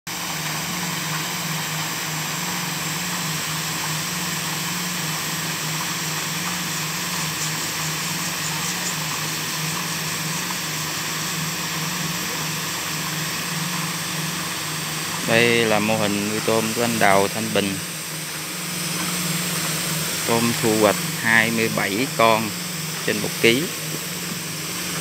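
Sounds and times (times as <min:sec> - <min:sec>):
aerator motor hum: 0:00.1 - 0:25.0.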